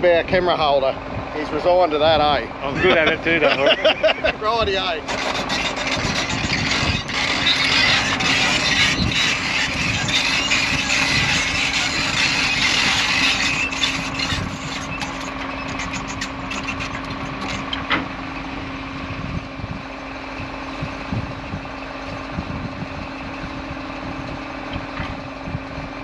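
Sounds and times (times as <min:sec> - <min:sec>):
heavy diesel engines running: 0:00.0 - 0:26.0.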